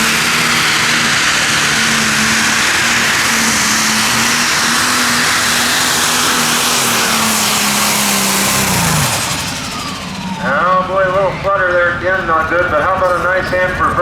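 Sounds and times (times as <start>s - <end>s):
tractor engine at full throttle: 0.0s - 14.0s.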